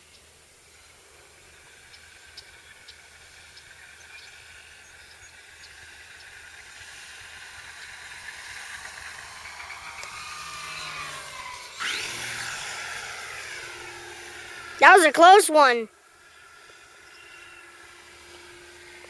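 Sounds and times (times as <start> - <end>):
model airplane motor whine: 0.0 - 19.0.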